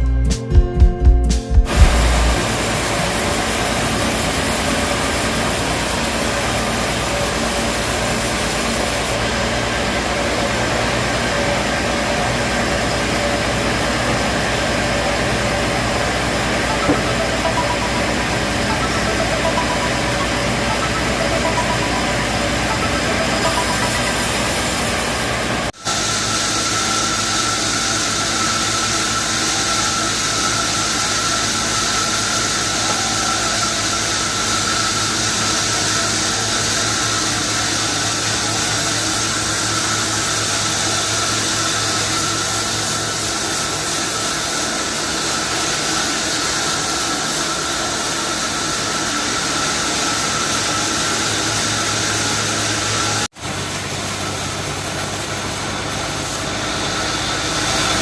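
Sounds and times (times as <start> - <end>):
sawmill blade cutting log: 1.7 - 58.0.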